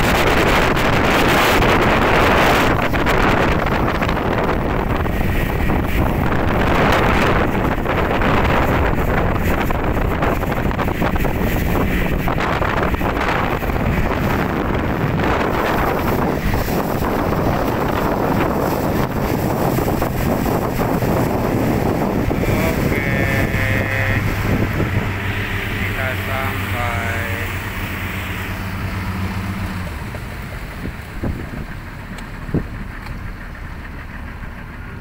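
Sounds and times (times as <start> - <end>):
outboard motor running: 0.0 - 35.0
water rushing along hull: 0.0 - 35.0
wind buffeting microphone: 0.0 - 35.0.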